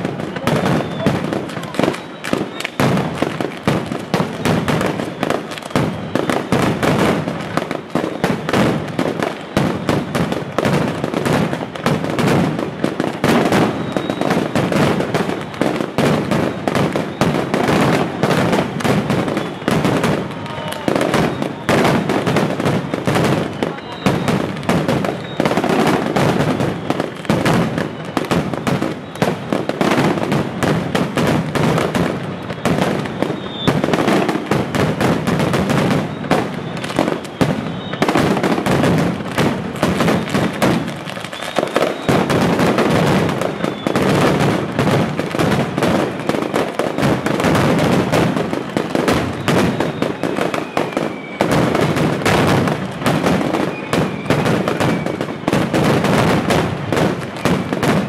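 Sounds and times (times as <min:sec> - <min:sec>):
firecrackers barrage of bangs: 0:00.0 - 0:58.0.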